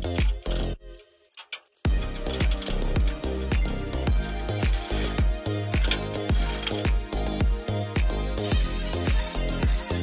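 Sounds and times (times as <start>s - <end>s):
music with kick-drum beat: 1.9s - 10.0s.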